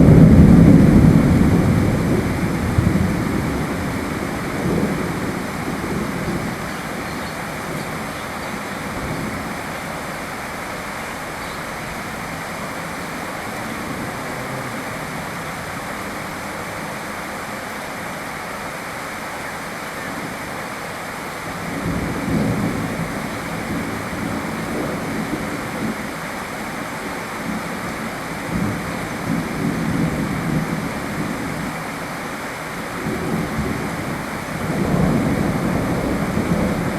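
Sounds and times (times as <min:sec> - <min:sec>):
thunder rumbling: 0:00.0 - 0:18.2, 0:21.5 - 0:32.0, 0:32.9 - 0:36.9
steady rain falling: 0:00.0 - 0:36.9.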